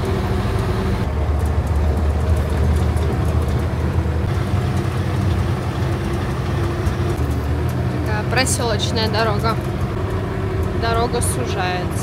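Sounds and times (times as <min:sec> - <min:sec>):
bus engine humming: 0:00.0 - 0:12.0
road noise: 0:00.0 - 0:12.0.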